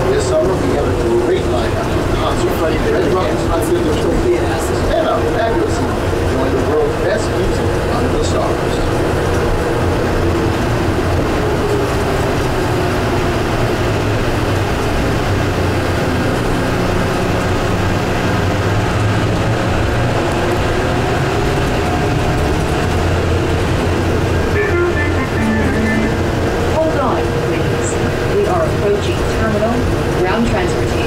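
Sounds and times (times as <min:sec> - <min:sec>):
train running through tunnel: 0:00.0 - 0:31.0.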